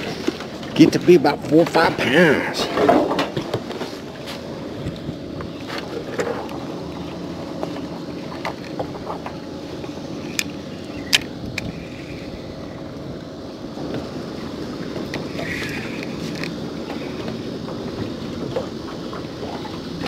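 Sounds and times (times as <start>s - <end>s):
water around a boat: 0.0s - 20.0s
wind rumble: 0.0s - 20.0s.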